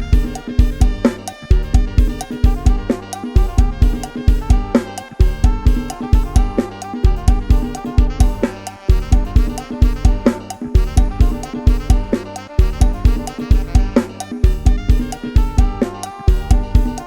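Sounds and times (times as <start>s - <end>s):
instrumental dance music: 0.0s - 17.0s
kick drum and bass thumps: 0.0s - 17.0s.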